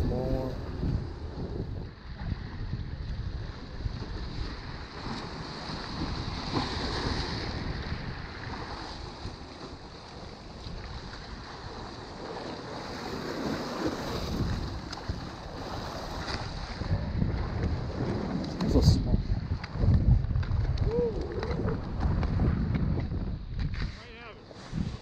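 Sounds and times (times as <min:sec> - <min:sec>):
waves washing against rocks: 0:00.0 - 0:23.0
wind buffeting microphone: 0:00.0 - 0:25.0.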